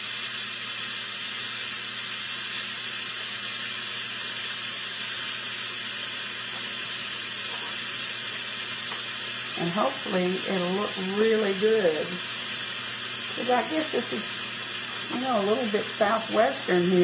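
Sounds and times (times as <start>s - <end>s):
steam release valve hissing: 0.0s - 17.0s.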